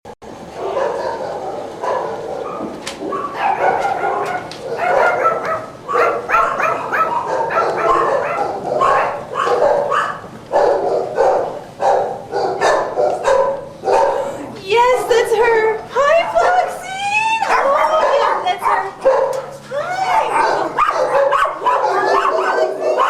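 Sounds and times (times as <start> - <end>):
dog barking: 0.6 - 15.2, 17.4 - 23.0.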